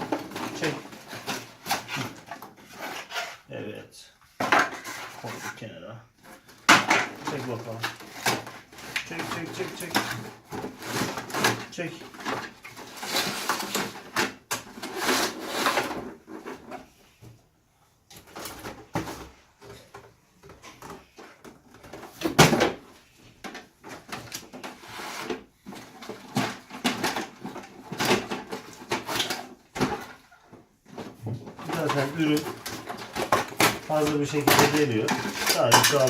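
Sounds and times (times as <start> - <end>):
cardboard rustling and scraping: 0.0 - 3.8, 4.4 - 17.4, 18.2 - 36.0.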